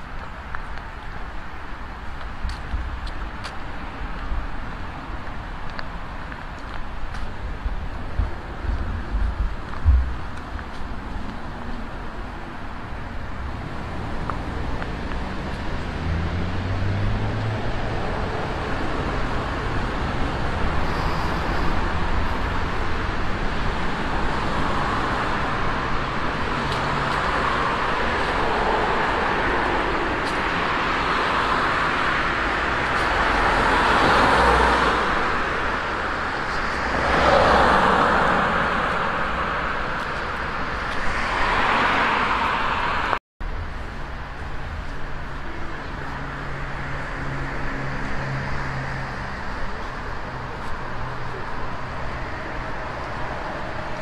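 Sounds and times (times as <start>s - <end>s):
cars passing loudly: 0.0s - 54.0s
traffic hum: 0.0s - 54.0s.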